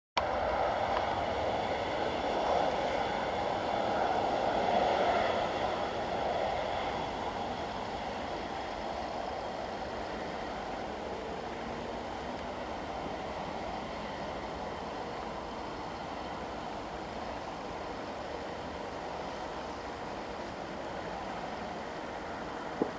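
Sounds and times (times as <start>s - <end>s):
jet engines taxiing: 0.2s - 22.9s.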